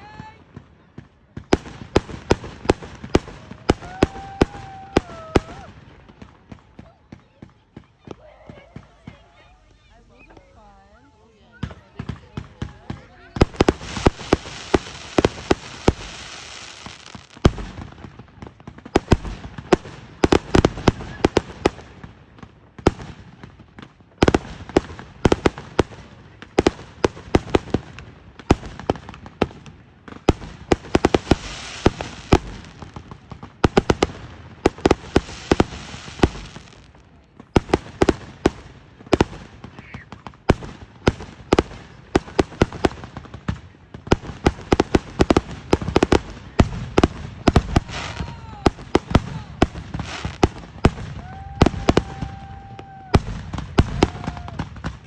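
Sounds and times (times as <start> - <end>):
fireworks banging: 0.0 - 55.0
fireworks crackling and hissing: 0.0 - 55.0.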